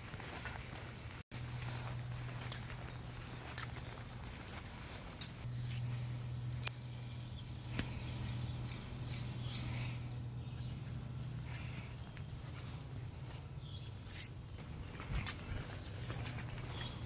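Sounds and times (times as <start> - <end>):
low hum: 0.0 - 17.0
small birds chirping: 0.0 - 17.0.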